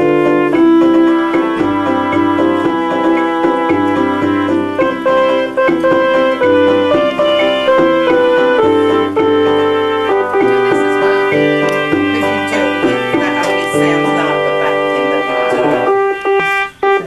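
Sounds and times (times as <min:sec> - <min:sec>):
electronic organ melody: 0:00.0 - 0:17.0.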